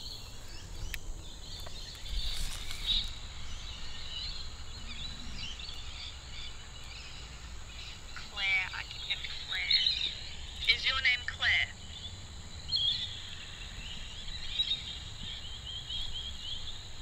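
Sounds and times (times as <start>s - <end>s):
faint bird chirps: 0.0s - 17.0s
insect calls: 0.0s - 17.0s
low rumble of wind: 0.0s - 17.0s.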